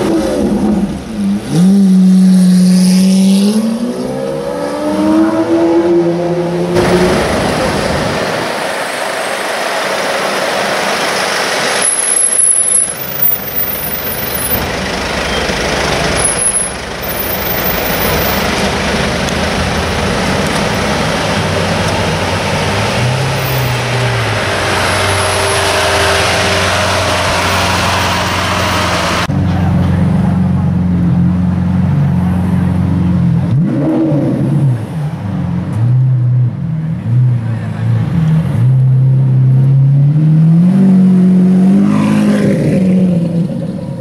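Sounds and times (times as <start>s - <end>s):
heavy street traffic: 0.0s - 44.0s.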